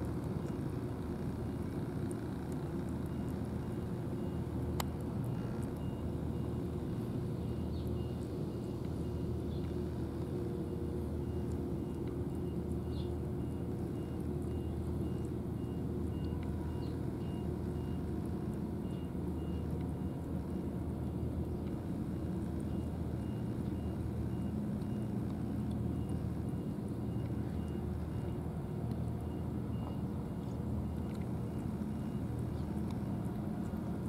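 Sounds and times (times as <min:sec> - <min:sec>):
large vehicle engine rumble: 0:00.0 - 0:34.0
reversing alarm beeping: 0:03.1 - 0:18.1, 0:18.8 - 0:20.7, 0:22.2 - 0:33.2.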